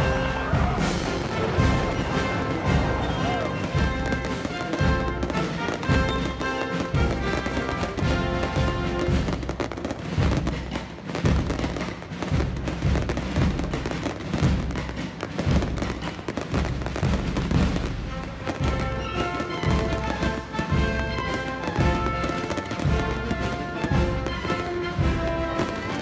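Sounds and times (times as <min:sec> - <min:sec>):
fireworks bangs and crackle: 0:00.0 - 0:26.0
music with steady low beat: 0:00.0 - 0:26.0.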